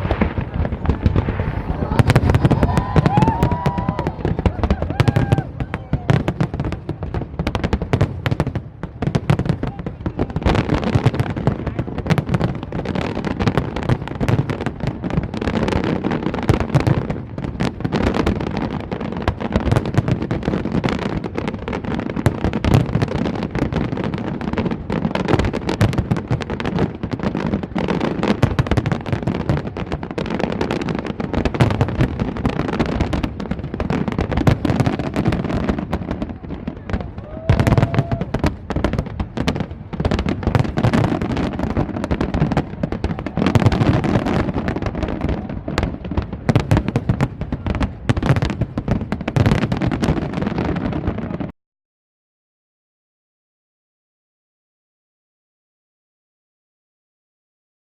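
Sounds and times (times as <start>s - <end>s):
fireworks bangs and crackling: 0.0s - 51.6s.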